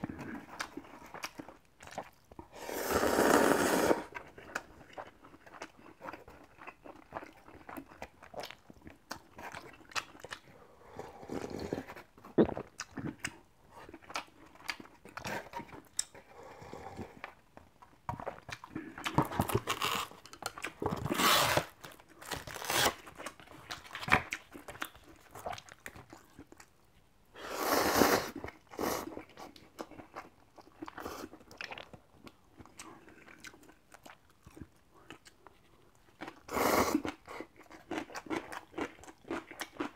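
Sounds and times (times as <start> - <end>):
chewing and crunching: 0.0 - 2.6, 4.0 - 27.1, 28.4 - 39.9.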